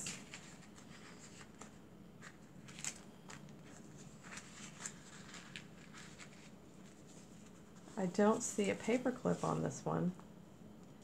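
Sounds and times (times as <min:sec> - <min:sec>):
paper sheets rustling: 0:00.0 - 0:09.8.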